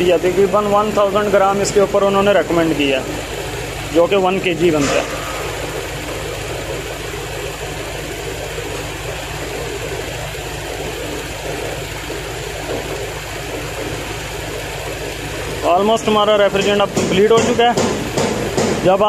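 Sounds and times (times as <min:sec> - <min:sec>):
air conditioning hiss: 0:00.0 - 0:19.0
car engine idling: 0:00.0 - 0:19.0.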